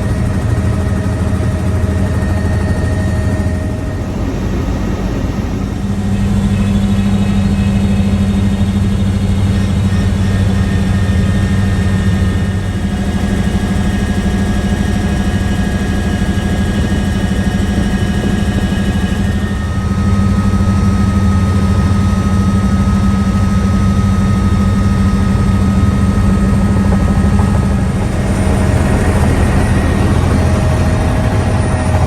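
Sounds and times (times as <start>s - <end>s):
faint high whine: 0.0s - 32.0s
helicopter engine and rotor drone: 0.0s - 32.0s.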